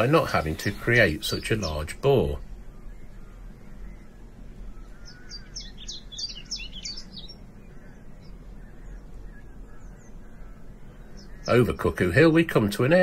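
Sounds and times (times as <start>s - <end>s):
low steady background hum: 0.0s - 13.0s
songbird singing: 0.0s - 13.0s.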